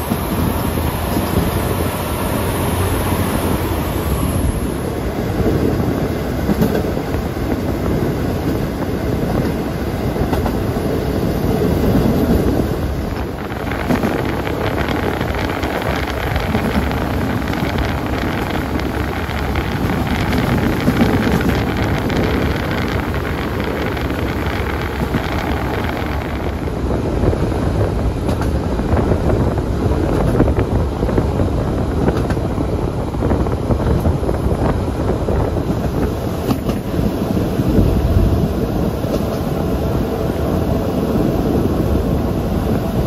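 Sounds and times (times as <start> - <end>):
train wheels and air rumbling: 0.0 - 43.0.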